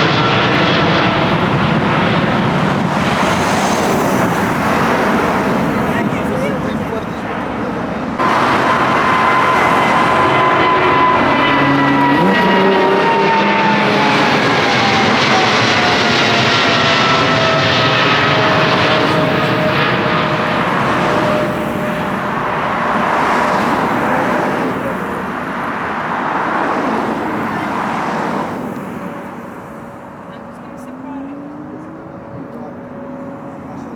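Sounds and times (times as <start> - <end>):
jet engines roaring overhead: 0.0 - 33.9.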